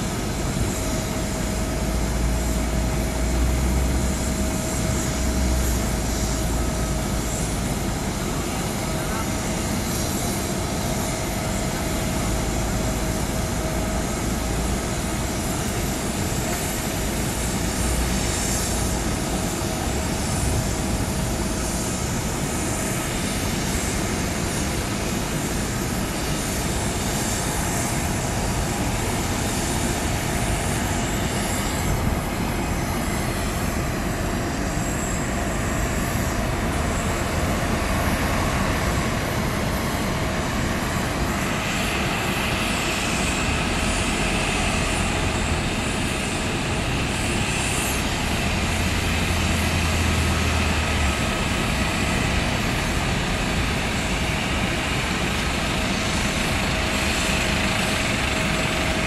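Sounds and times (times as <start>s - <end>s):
jet engine whine and hiss: 0.0s - 59.0s.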